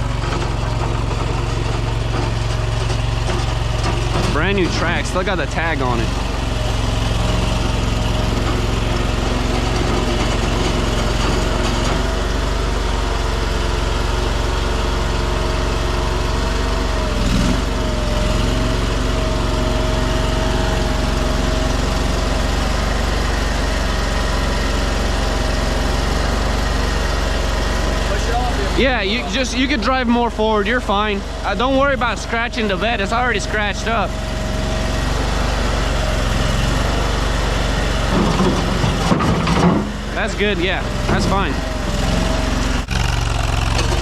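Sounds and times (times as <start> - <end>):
small gasoline engine running: 0.0 - 44.0.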